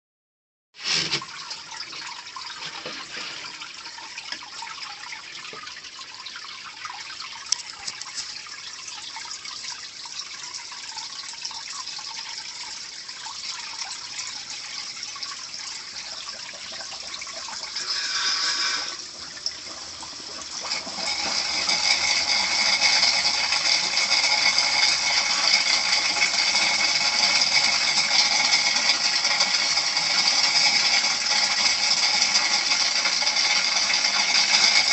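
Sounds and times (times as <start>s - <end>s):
water pouring from drain pipe: 0.8s - 34.9s.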